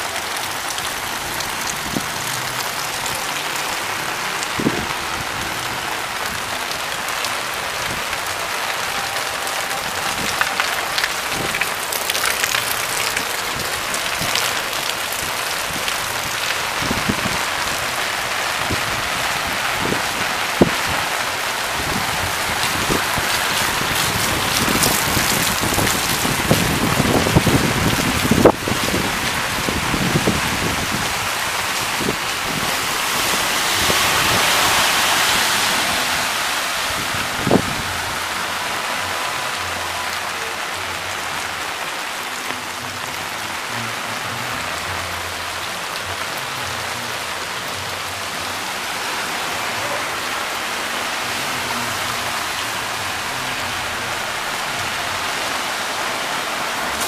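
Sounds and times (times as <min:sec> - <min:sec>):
rain falling on flooded street: 0:00.0 - 0:57.0.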